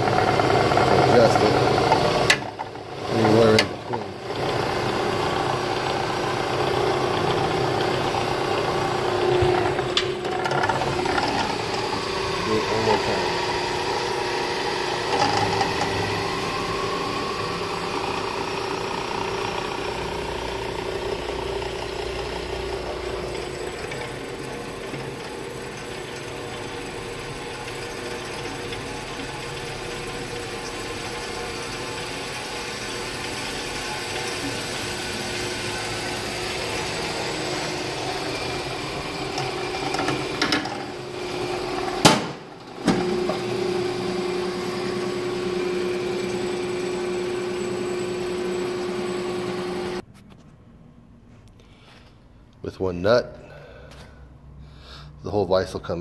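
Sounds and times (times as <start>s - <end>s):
band saw motor humming: 0.0s - 50.0s.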